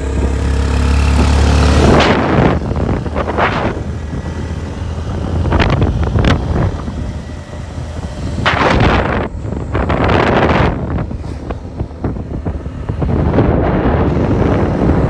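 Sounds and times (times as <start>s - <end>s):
motorcycle riding rumble: 0.0s - 15.0s
wind buffeting microphone: 0.0s - 15.0s.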